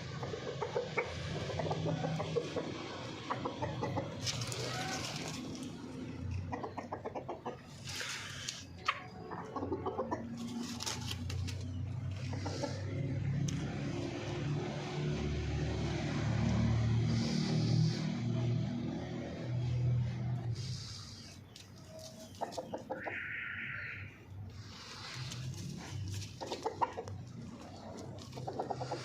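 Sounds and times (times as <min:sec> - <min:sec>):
hens clucking: 0:00.0 - 0:14.9, 0:16.9 - 0:29.0.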